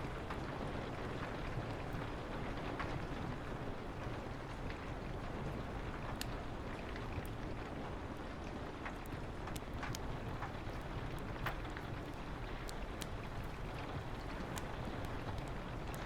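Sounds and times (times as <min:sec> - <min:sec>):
wood fire crackling: 0:00.1 - 0:16.0.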